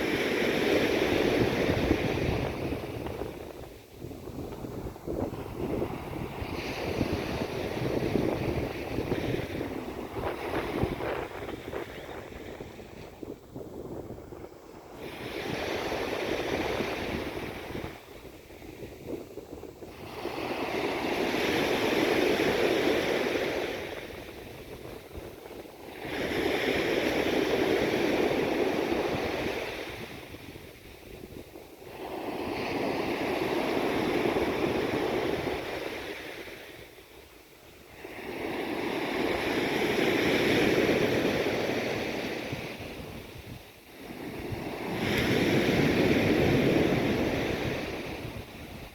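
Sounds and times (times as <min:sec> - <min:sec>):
sea waves washing in: 0:00.0 - 0:48.9
wind on microphone: 0:00.0 - 0:48.9.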